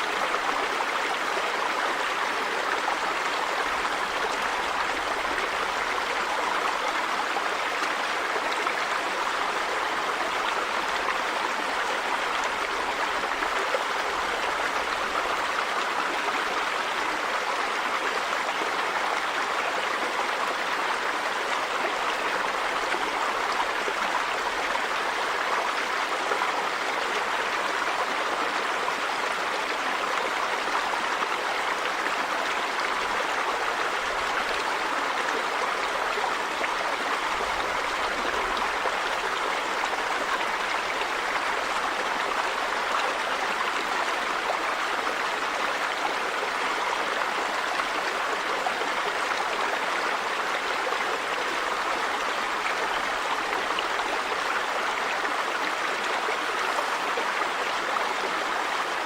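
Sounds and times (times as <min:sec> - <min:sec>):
river water running over rocks: 0:00.0 - 0:59.0.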